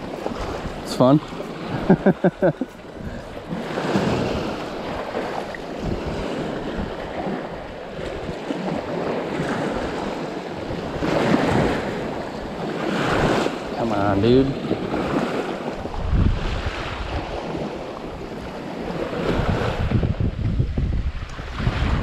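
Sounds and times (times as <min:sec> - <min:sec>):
water lapping in shallows: 0:00.0 - 0:22.0
wind on microphone: 0:00.0 - 0:22.0.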